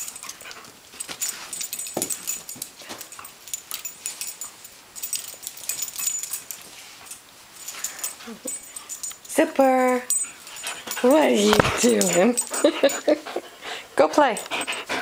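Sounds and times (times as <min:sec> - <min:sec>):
dog scuffling and rustling: 0:00.0 - 0:13.2.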